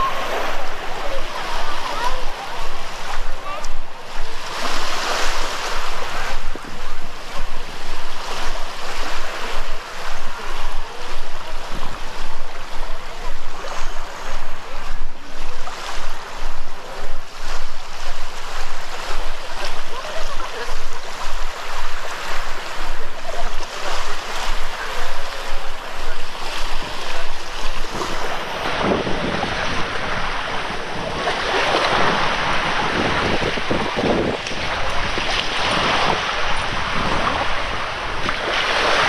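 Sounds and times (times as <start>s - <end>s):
surf washing onto sandy beach: 0.0s - 39.0s.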